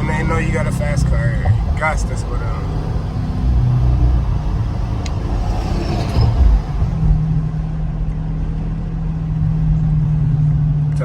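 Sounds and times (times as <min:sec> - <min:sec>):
car engine cruising from inside cabin: 0:00.0 - 0:11.0.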